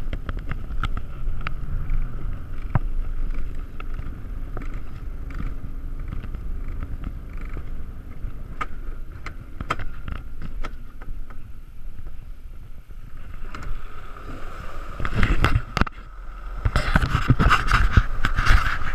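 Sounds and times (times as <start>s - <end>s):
sled rattling: 0.0s - 18.9s
sled wheels rumbling on rail: 0.0s - 18.9s.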